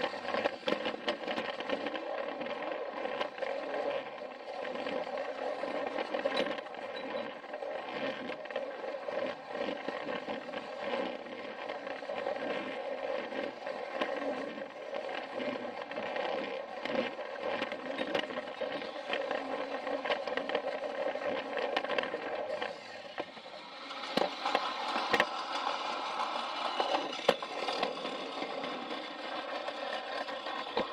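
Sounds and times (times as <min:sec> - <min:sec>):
toy train motor whine: 0:00.0 - 0:30.9
wheels clicking over rail joints: 0:00.0 - 0:30.9.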